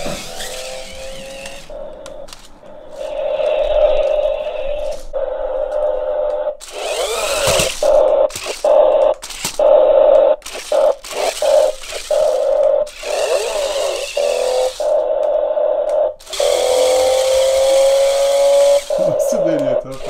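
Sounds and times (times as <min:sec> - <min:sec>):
toy car motors whining: 0:00.0 - 0:20.0.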